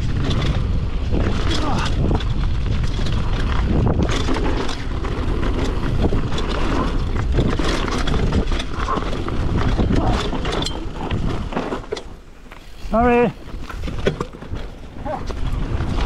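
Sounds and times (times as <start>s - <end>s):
bike knocks and rattles: 0.0s - 16.0s
bike tyres rolling on dirt: 0.0s - 16.0s
wind buffeting microphone: 0.0s - 16.0s.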